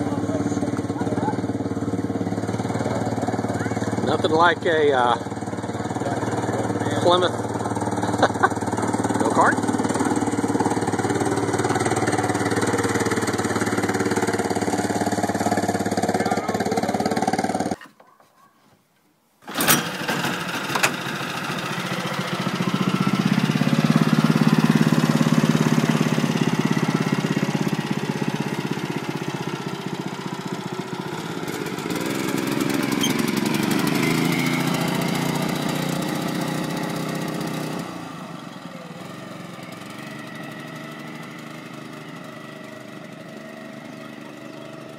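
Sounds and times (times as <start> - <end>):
go-kart engine running: 0.0 - 17.8, 19.4 - 44.9
small car engine driving around: 0.0 - 17.8, 19.4 - 44.9.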